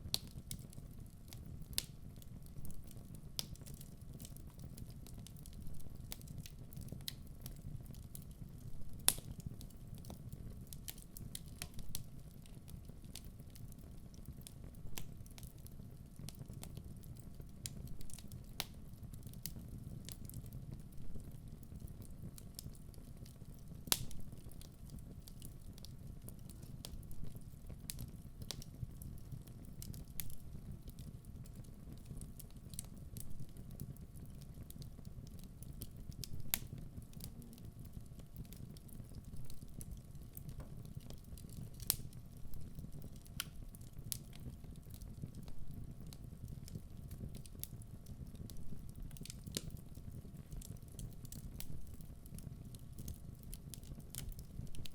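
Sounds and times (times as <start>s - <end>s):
logs crackling and popping: 0.0s - 54.9s
flames rumbling: 0.1s - 54.9s.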